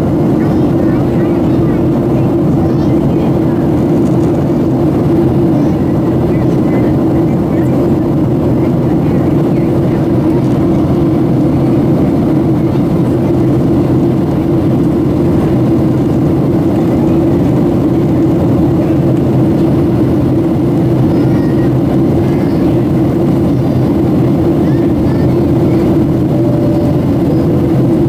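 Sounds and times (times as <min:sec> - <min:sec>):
jet engine drone: 0:00.0 - 0:28.0.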